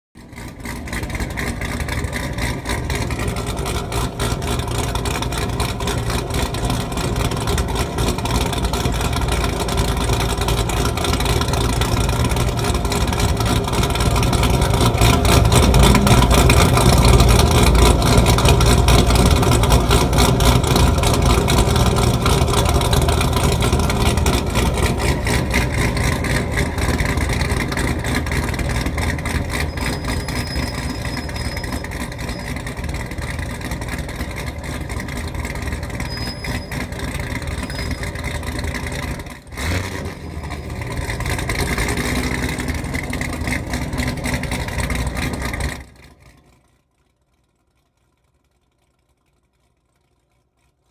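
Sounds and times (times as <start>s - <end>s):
car engine pulsing exhaust: 0.2s - 50.9s.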